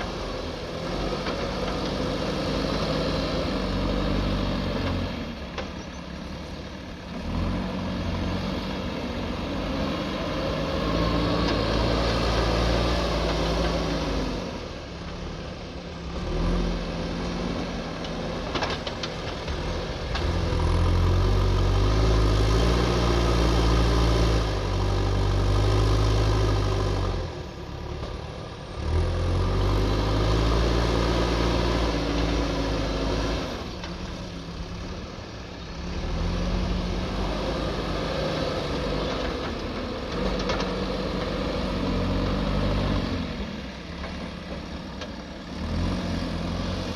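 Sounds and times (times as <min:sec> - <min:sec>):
diesel engine revving: 0:00.0 - 0:46.9.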